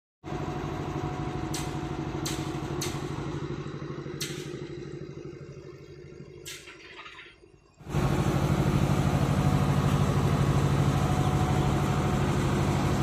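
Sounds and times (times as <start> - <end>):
diesel engine running: 0.2 - 13.0.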